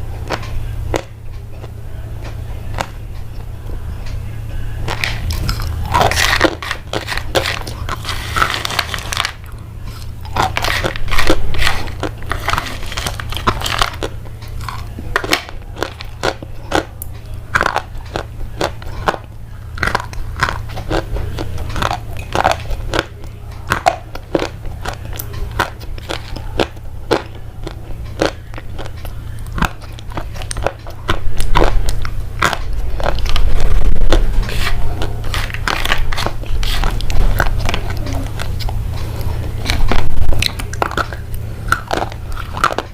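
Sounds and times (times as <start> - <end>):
low hum: 0.0 - 42.9
crisp crunching and crackling: 4.8 - 42.9.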